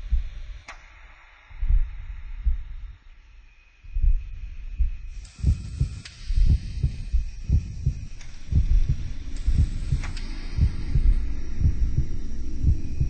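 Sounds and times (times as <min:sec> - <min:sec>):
heartbeat thumps: 0:00.0 - 0:00.7, 0:01.5 - 0:03.0, 0:03.9 - 0:13.0.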